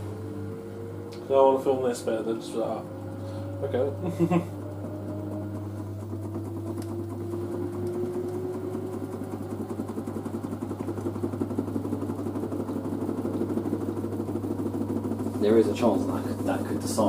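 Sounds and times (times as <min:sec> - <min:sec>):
drum pulsing: 0:00.0 - 0:17.0
low hum: 0:00.0 - 0:17.0
washing machine motor whining: 0:00.0 - 0:17.0.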